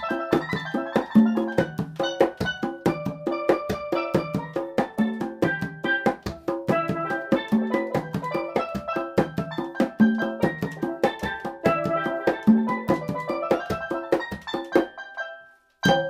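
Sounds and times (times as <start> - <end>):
congas played by hand: 0.0 - 16.0.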